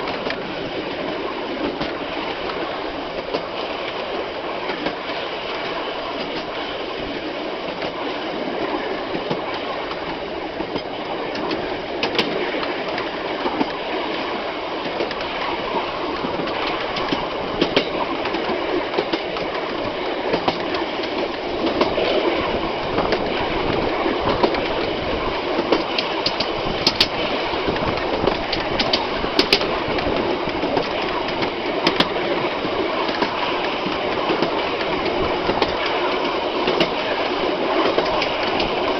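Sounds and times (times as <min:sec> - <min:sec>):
train wheels rumbling and rattling: 0:00.0 - 0:38.9.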